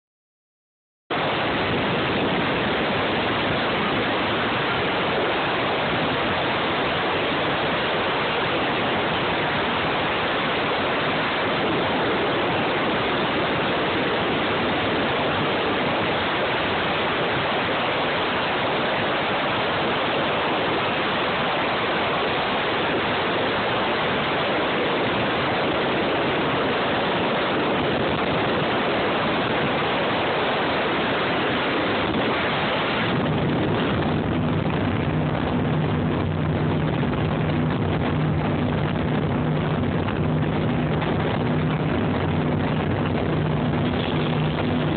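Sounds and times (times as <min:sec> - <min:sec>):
water rushing: 0:01.1 - 0:44.9
wind rushing: 0:01.1 - 0:44.9.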